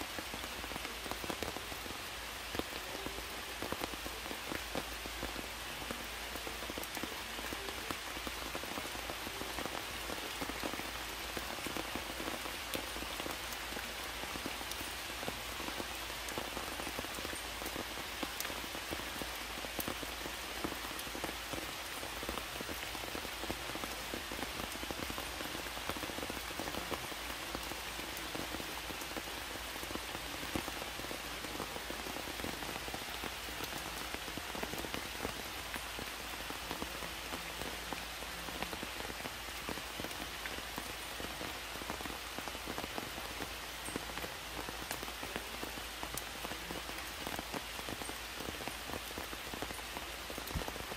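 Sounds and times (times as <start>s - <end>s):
heavy rain: 0.0s - 50.9s
raindrops pattering: 0.0s - 50.9s.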